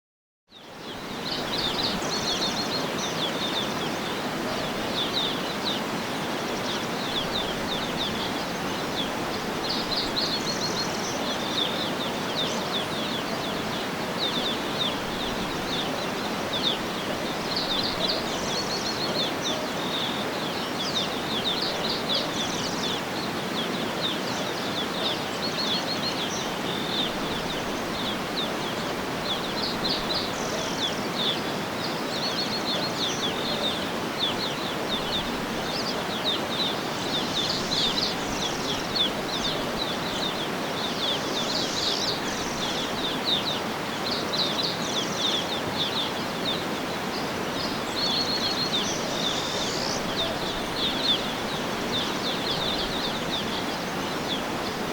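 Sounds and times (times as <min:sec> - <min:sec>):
small birds chirping: 0:00.5 - 0:54.9.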